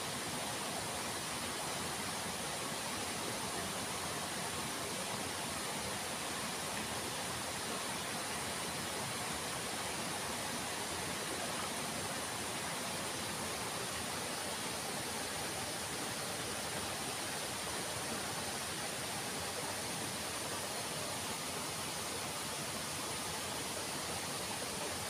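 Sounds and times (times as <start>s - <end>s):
rush of flowing water: 0.0s - 25.0s.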